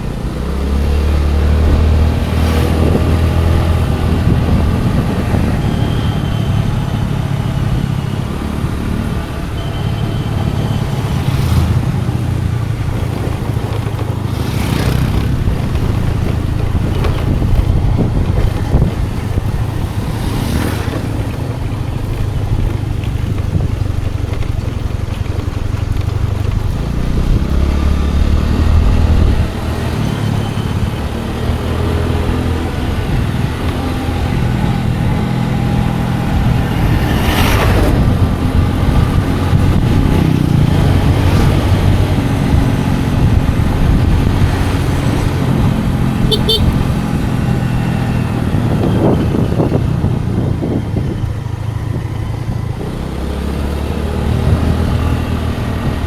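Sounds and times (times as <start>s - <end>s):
road and wind noise: 0.0s - 56.0s
scooter engine running: 0.0s - 56.0s.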